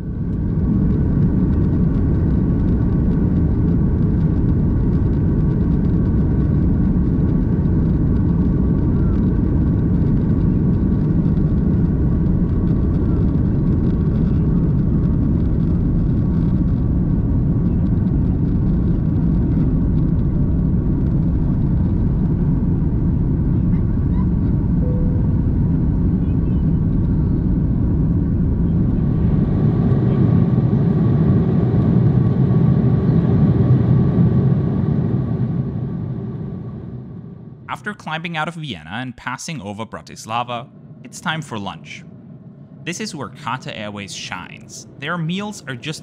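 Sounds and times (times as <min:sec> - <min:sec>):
faint steady whine: 0:00.0 - 0:46.0
jet engines rumbling: 0:00.0 - 0:46.0.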